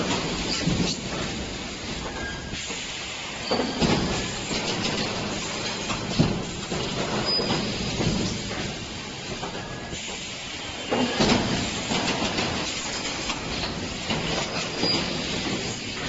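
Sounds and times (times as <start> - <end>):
machine knocks and clatter: 0.0 - 2.8, 3.5 - 10.3, 10.9 - 16.0.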